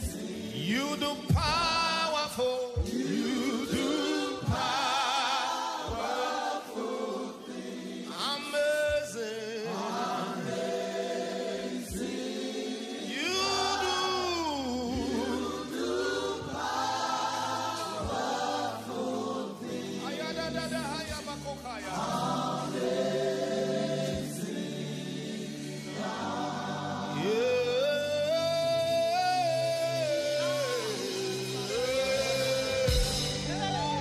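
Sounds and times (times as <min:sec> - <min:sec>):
choir singing slow gospel song: 0:00.0 - 0:34.0.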